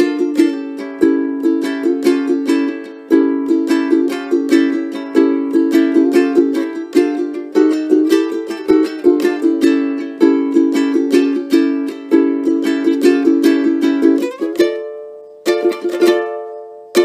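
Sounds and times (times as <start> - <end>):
ukulele plucked notes and chords: 0.0 - 17.0.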